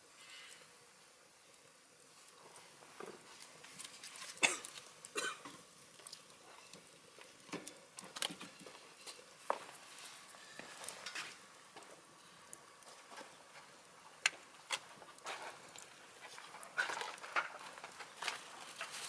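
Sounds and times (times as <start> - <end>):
faint hiss: 0.0 - 19.0
wood stove fire crackling: 0.0 - 19.0.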